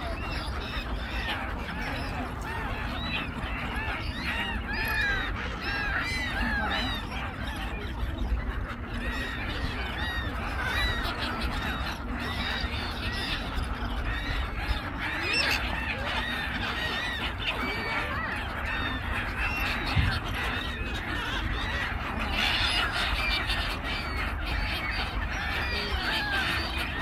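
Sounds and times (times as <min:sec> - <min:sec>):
gulls calling: 0:00.0 - 0:27.0.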